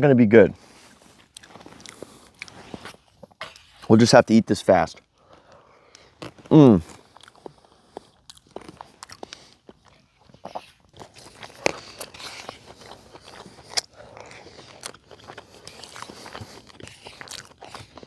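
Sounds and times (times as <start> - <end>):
person chewing and biting: 0.8 - 3.8, 5.3 - 18.0.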